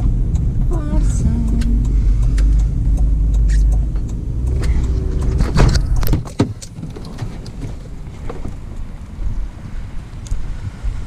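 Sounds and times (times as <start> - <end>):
sharp clicks and knocks: 0.0 - 8.9
car engine low rumble: 0.0 - 11.0.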